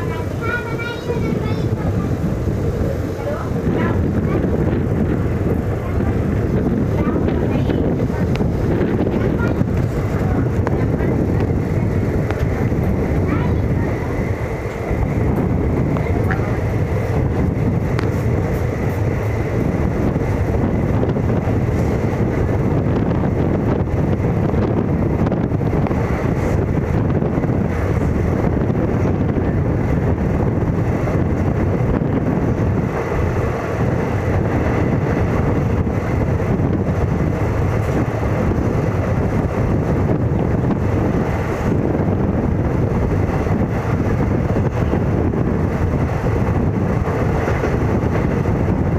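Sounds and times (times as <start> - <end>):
moving train rumble: 0.0 - 48.9
wind noise on microphone: 0.0 - 48.9.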